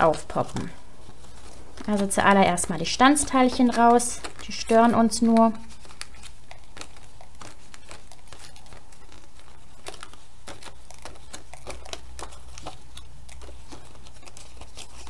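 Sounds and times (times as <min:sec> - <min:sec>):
paper clicks and ticks: 0:01.4 - 0:15.0.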